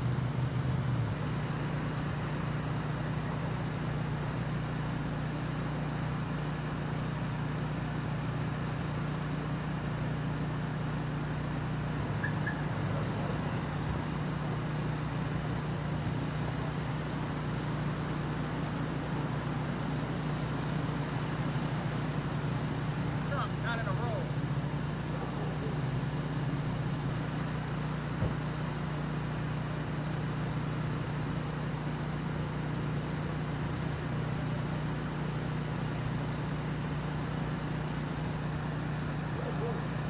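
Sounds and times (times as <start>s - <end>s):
low engine hum: 0.0s - 40.0s
road traffic noise: 0.0s - 40.0s.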